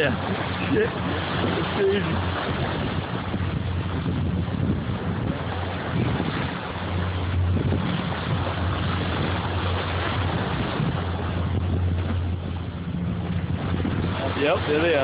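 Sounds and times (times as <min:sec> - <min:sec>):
boat engine humming: 0:00.0 - 0:15.0
water noise: 0:00.0 - 0:15.0
wind buffeting microphone: 0:00.0 - 0:15.0.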